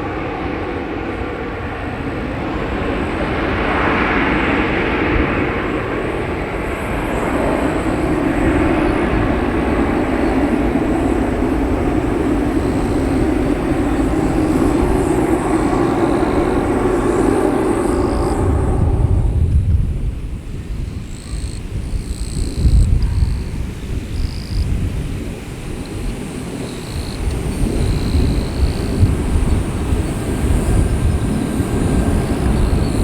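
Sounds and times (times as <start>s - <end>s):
jet engine roar: 0.0s - 33.0s.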